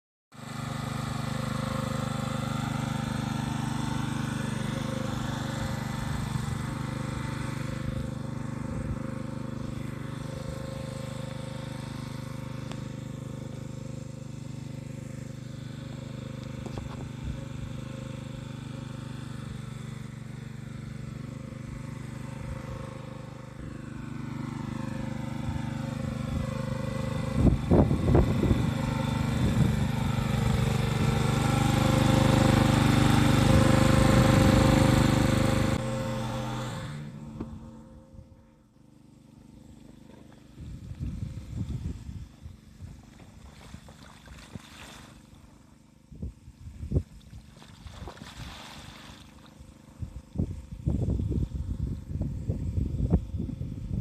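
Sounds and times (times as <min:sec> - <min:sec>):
water pump engine running: 0:00.3 - 0:54.0.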